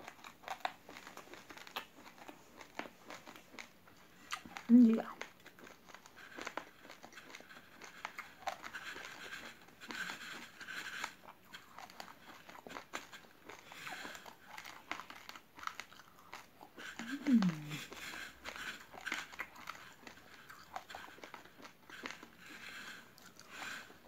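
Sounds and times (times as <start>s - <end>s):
crunching raw rice while chewing: 0.0s - 24.0s.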